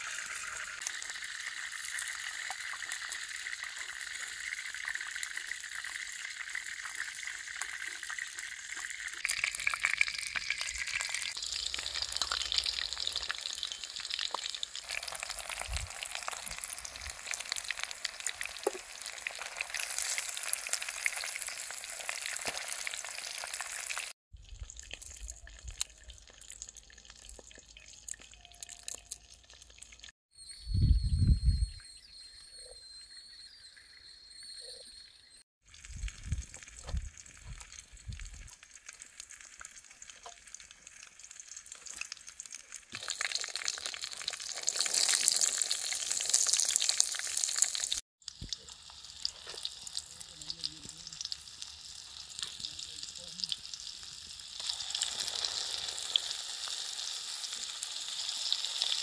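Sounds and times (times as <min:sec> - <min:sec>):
food sizzling in hot oil: 0:00.0 - 0:30.1, 0:35.6 - 0:59.0.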